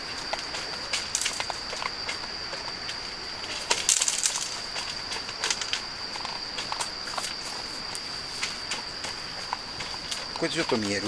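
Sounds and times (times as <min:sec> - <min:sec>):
high insect trill: 0:00.0 - 0:11.0
dogs crunching dry kibble: 0:00.1 - 0:11.0.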